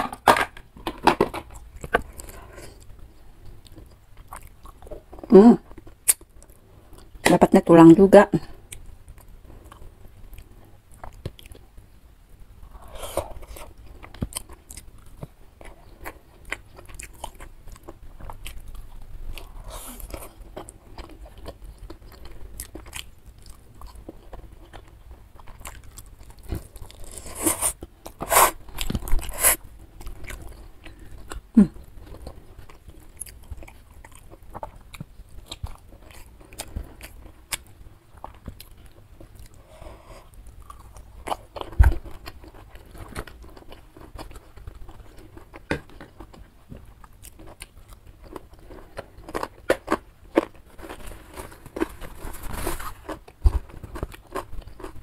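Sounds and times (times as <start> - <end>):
person chewing with crunches: 0.0 - 7.2, 8.6 - 11.8, 12.6 - 55.0.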